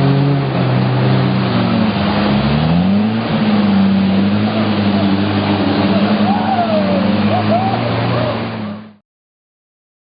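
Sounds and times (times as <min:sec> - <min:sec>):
vehicle engine accelerating: 0:00.0 - 0:09.0.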